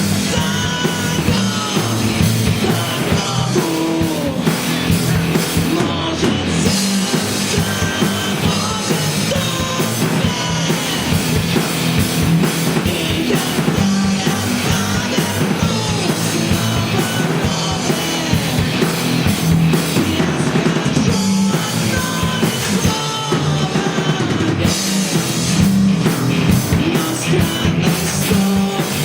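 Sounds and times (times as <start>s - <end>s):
person singing: 0.0s - 11.6s, 12.5s - 25.6s, 26.4s - 29.0s
drum kit beating: 0.0s - 29.0s
guitars: 0.0s - 29.0s.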